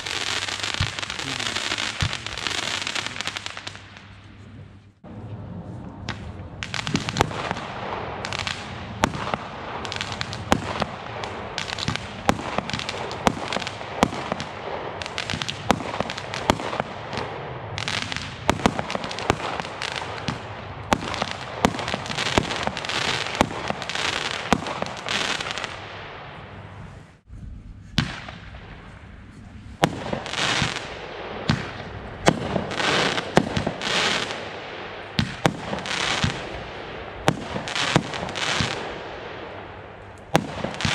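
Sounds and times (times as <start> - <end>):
fireworks bangs and crackling: 0.0 - 4.4, 5.0 - 26.9, 27.9 - 40.9.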